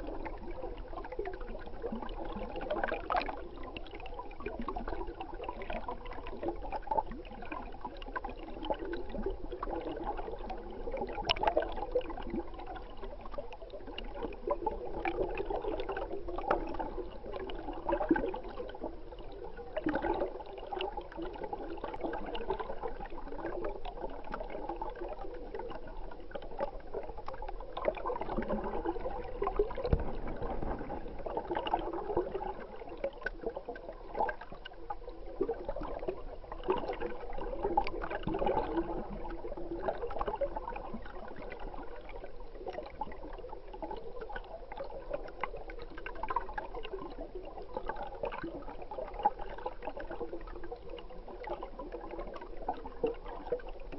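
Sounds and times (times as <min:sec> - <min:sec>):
muffled underwater stream gurgling: 0:00.0 - 0:53.9.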